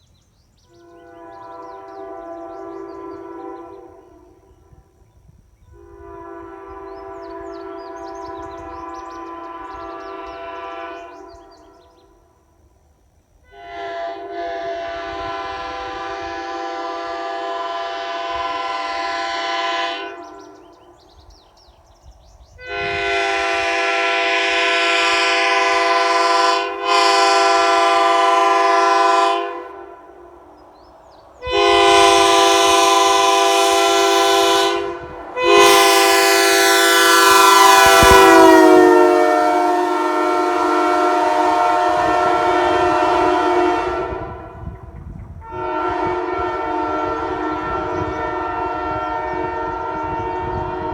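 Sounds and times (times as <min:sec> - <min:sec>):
three-chime train horn blasts: 0:00.6 - 0:05.0, 0:05.6 - 0:12.6, 0:13.4 - 0:21.0, 0:22.6 - 0:30.5, 0:31.4 - 0:50.9.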